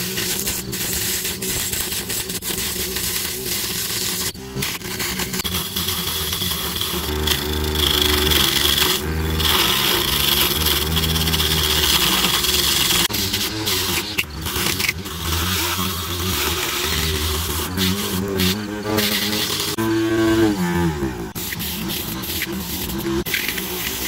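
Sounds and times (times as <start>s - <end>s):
blade scraping styrofoam: 0.0s - 24.0s
small motor whining: 0.0s - 24.0s.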